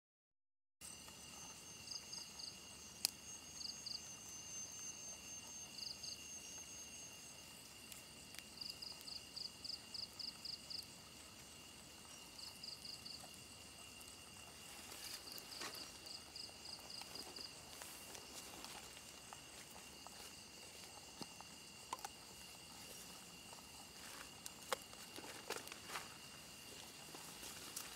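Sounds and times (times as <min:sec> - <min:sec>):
insect high-pitched drone: 0:00.8 - 0:27.9.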